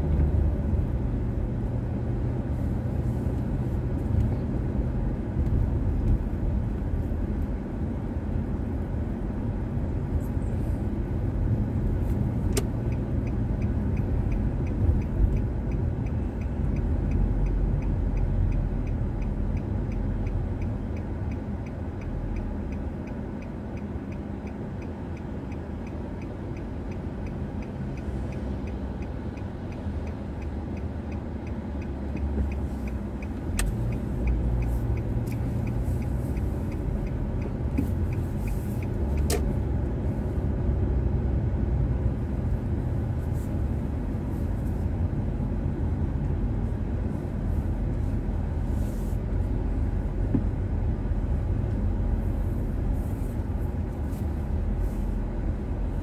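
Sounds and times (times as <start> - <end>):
car engine and road rumble: 0.0 - 56.0
turn signal indicator ticking: 10.8 - 56.0.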